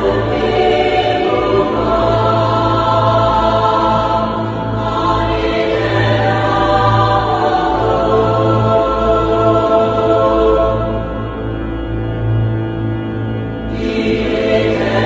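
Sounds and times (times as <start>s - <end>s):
choir singing held chords: 0.0s - 12.2s, 13.6s - 15.0s.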